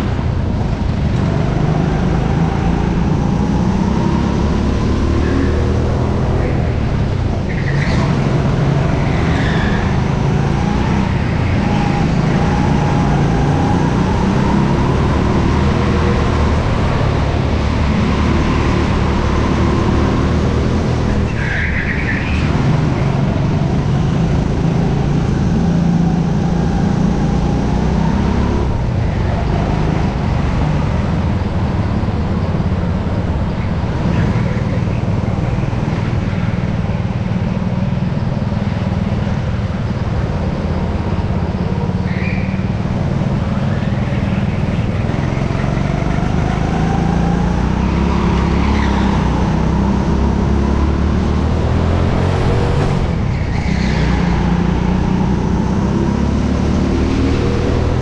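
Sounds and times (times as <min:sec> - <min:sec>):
go-kart engine: 0:00.0 - 0:58.0
wind and track noise: 0:00.0 - 0:58.0.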